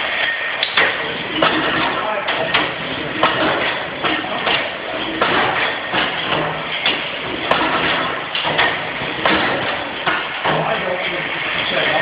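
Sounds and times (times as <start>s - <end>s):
steady mechanical noise: 0.0s - 12.0s
gas engine clattering knocks: 0.7s - 12.0s.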